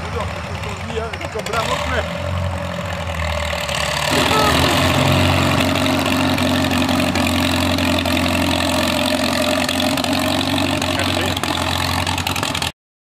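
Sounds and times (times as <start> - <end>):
tractor engine running: 0.0 - 12.8.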